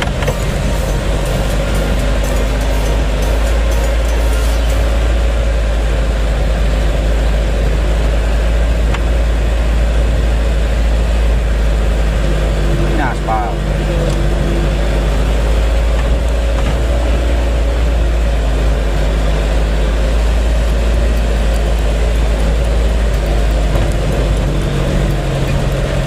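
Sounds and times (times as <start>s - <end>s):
diesel engine drone: 0.0s - 26.0s
road noise: 0.0s - 26.0s.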